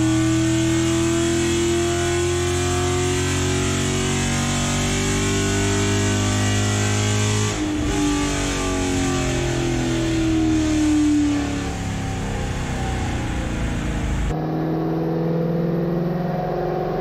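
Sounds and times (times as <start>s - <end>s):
v eight engine on dyno: 0.0s - 17.0s.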